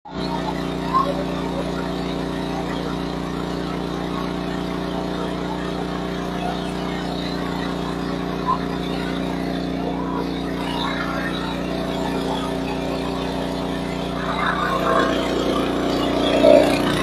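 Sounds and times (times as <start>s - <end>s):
engine drone: 0.1s - 17.0s.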